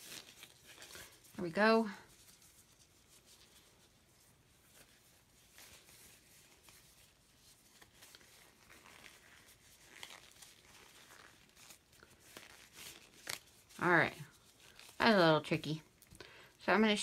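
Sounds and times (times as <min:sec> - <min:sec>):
rustle of disposable gloves: 0:00.0 - 0:17.0.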